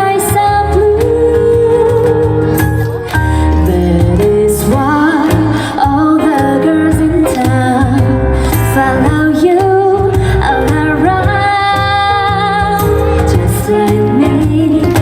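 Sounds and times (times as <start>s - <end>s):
band accompaniment with bass: 0.0s - 15.0s
woman singing: 0.0s - 15.0s.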